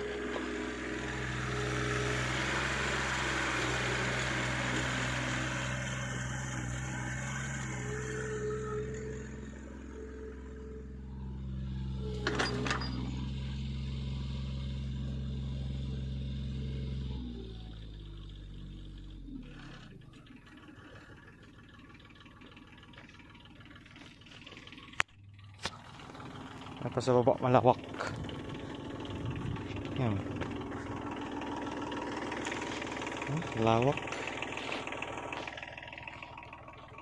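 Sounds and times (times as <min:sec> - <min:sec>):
backhoe diesel engine running: 0:00.0 - 0:37.0.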